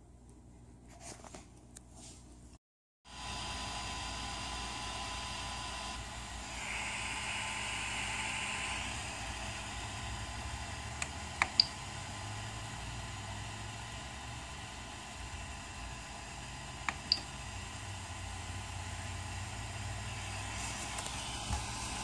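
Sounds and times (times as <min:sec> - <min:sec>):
cooling fans hissing: 0:03.1 - 0:22.0.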